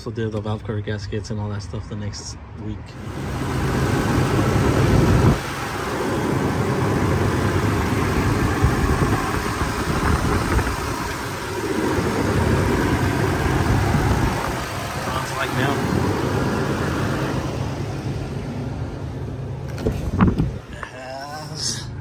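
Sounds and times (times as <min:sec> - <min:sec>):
car engine idling: 0:03.0 - 0:22.0.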